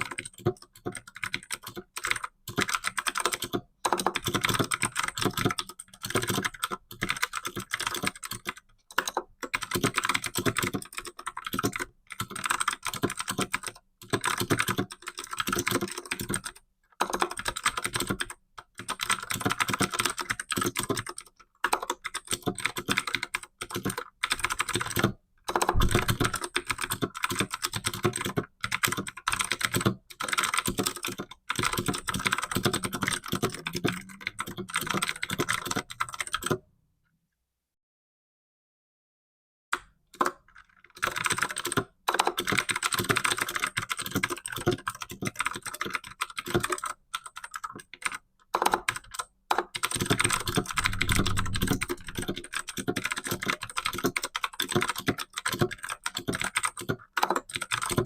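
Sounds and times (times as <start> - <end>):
fast typing on keyboard: 0.0 - 36.6, 40.2 - 58.0.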